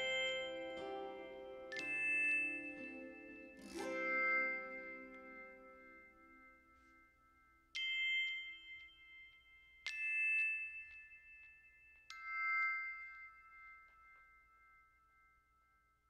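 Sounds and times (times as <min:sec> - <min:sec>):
bell-like mallet notes: 0:00.0 - 0:16.0.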